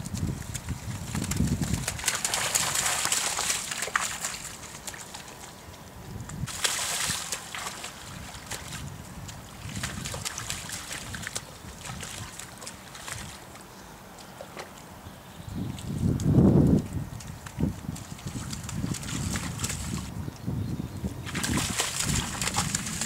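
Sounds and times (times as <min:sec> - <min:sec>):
splashing through shallow water: 0:00.0 - 0:15.0, 0:15.6 - 0:20.2, 0:21.2 - 0:23.0.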